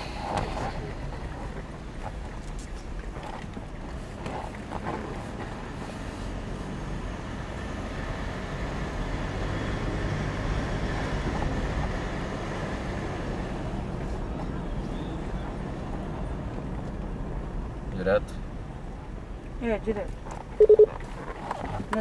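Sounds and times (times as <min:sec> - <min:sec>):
truck engine and tyres rumble: 0:00.0 - 0:22.0.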